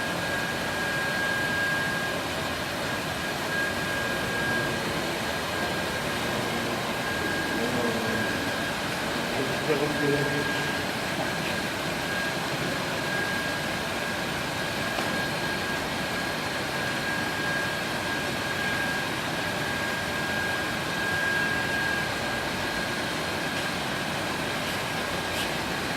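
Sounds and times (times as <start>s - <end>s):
high machine whine: 0.0s - 25.9s.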